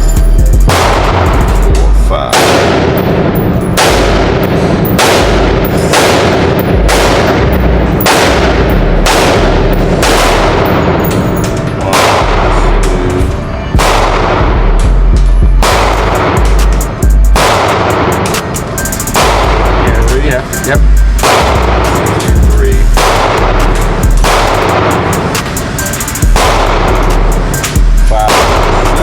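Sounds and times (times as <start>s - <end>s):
heavy bass music: 0.0s - 29.0s
sharp reverberant hit: 0.0s - 29.0s.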